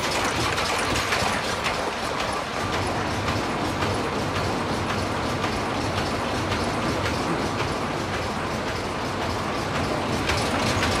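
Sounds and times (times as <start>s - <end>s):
machine mechanical clatter: 0.0s - 11.0s.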